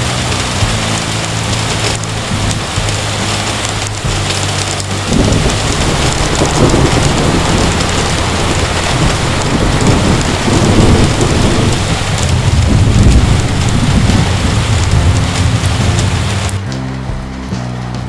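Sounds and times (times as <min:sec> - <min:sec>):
heavy rain falling: 0:00.0 - 0:18.0
thunder rumbling: 0:00.0 - 0:18.0.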